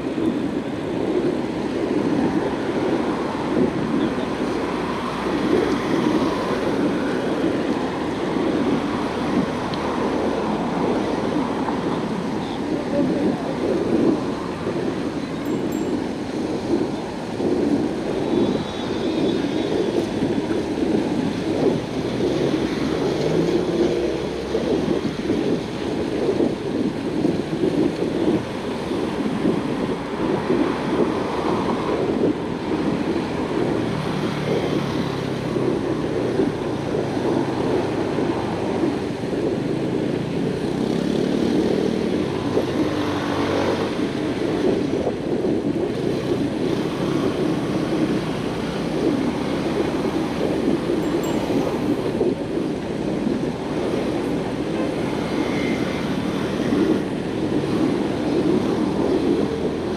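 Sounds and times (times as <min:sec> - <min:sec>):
road traffic: 0:00.0 - 0:59.9
wind buffeting microphone: 0:00.0 - 0:59.9.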